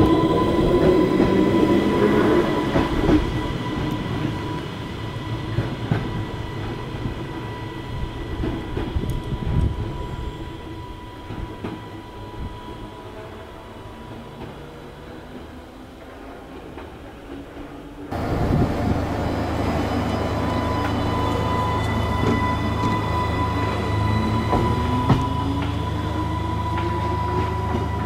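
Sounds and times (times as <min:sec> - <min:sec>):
electric train pulling away: 0:00.0 - 0:16.5, 0:17.5 - 0:28.0.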